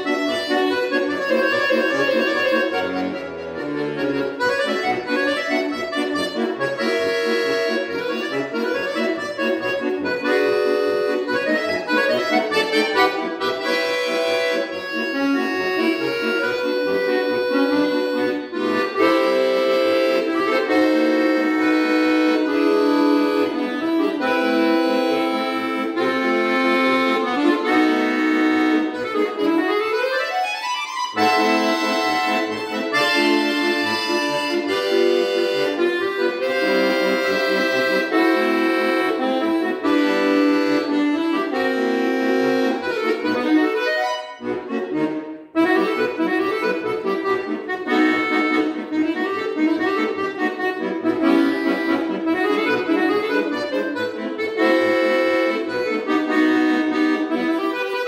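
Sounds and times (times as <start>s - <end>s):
button accordion playing: 0.0s - 58.0s.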